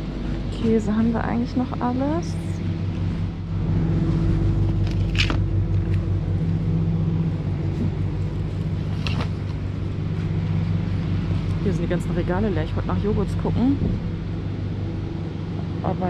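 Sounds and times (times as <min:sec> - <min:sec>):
refrigerator hum: 0:00.0 - 0:16.0.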